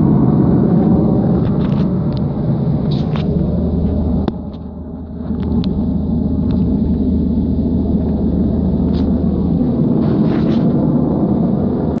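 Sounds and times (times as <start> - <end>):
vehicle rumble on gravel: 0.1 - 12.0.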